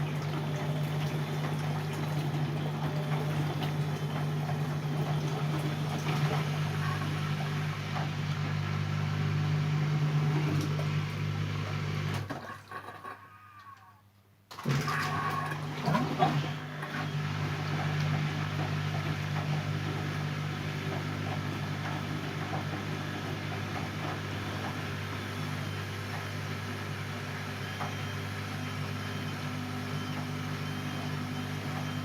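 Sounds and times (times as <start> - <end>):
washing machine motor humming: 0.0 - 13.6, 14.5 - 32.0.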